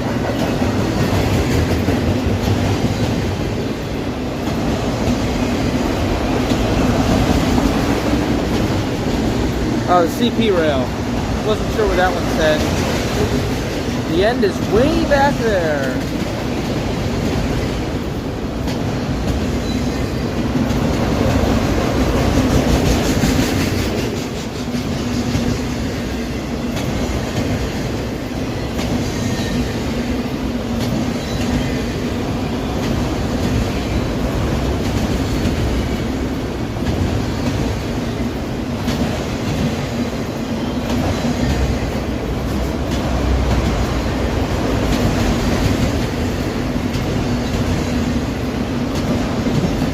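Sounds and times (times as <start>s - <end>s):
train wheels clicking over rail joints: 0.0s - 49.9s.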